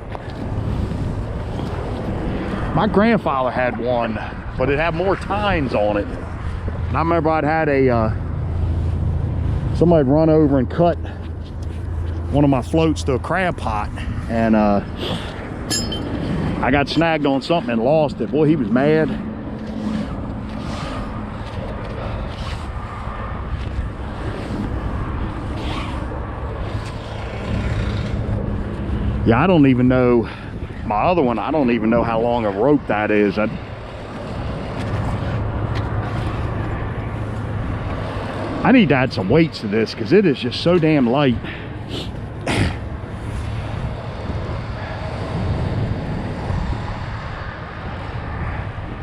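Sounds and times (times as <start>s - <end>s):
low engine drone: 0.0s - 49.0s
passing vehicle traffic: 0.0s - 49.0s
wind buffeting microphone: 0.0s - 49.0s.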